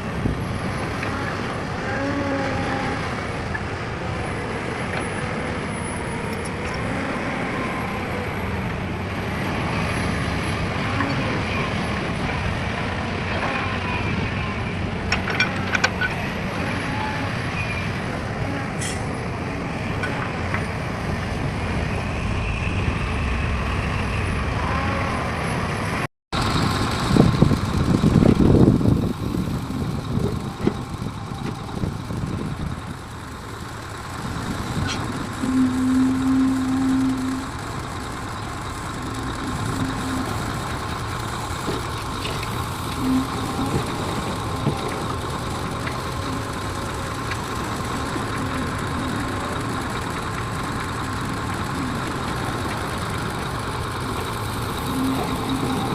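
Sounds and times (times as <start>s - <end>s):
heavy diesel vehicles running: 0.0s - 55.9s
road traffic noise: 0.0s - 55.9s
rough engine rumble: 0.0s - 55.9s.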